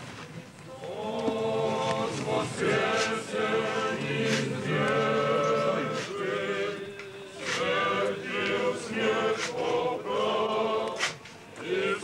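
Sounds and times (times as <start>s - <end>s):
group singing a church chant: 0.8s - 12.0s.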